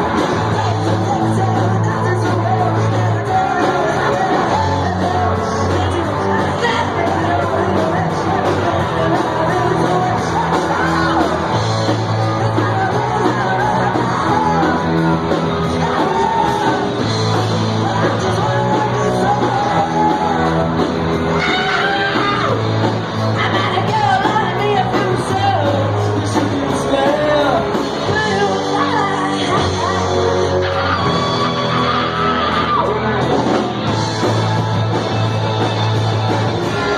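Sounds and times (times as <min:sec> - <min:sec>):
live band playing: 0:00.0 - 0:36.9
vocalist singing and yelling: 0:00.0 - 0:36.9.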